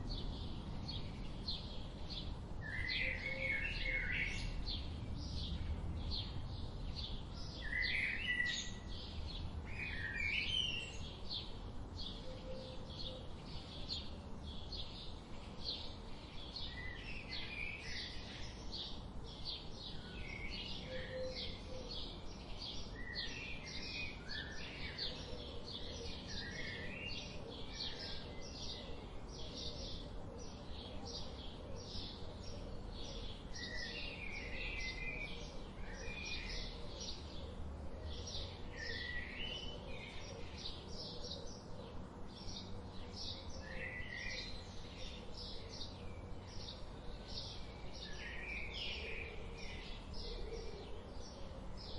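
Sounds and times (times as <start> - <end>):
songbirds singing and chirping: 0.0 - 51.9.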